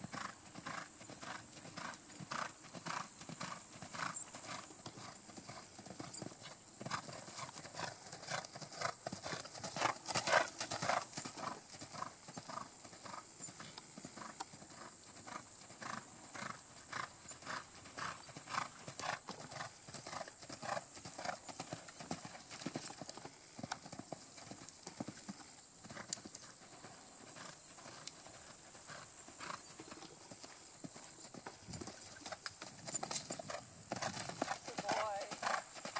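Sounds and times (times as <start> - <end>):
horse hoofbeats on sand: 0.0 - 23.4, 25.9 - 35.9.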